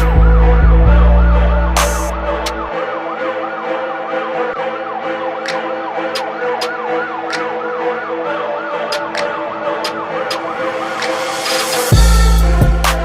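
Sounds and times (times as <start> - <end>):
siren-like synth wail: 0.0 - 13.0.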